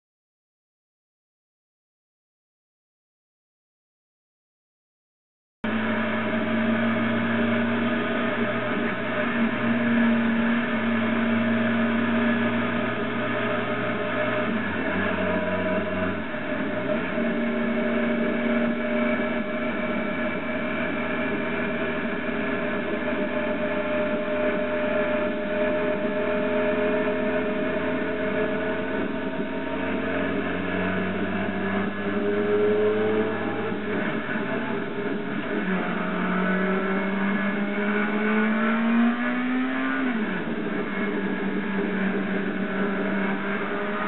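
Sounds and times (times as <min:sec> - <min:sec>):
motorcycle engine running: 0:05.6 - 0:44.0.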